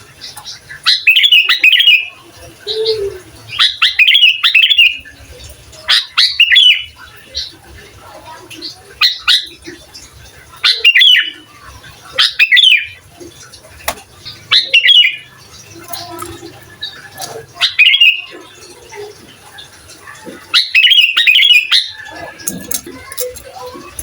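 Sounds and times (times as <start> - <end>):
bird singing chattering phrases: 0.0 - 24.0.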